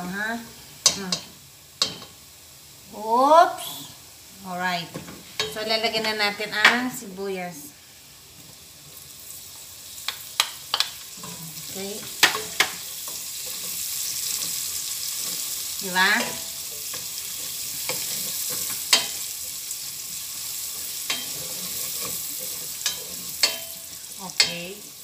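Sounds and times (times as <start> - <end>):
onions sizzling in butter: 0.0 - 25.0.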